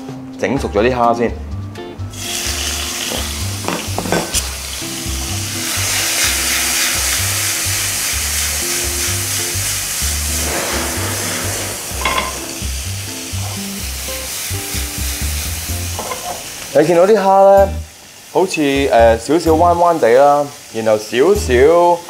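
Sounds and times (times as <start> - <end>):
shrimp sizzling in hot oil: 2.1 - 22.0.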